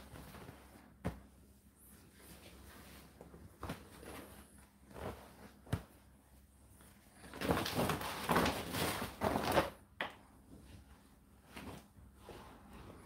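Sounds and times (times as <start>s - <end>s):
fabric and plastic rustling: 0.0s - 13.0s.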